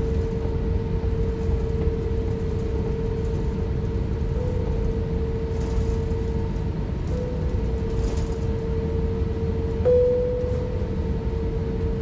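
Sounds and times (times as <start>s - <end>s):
airliner cabin rumble and hum: 0.0s - 12.0s.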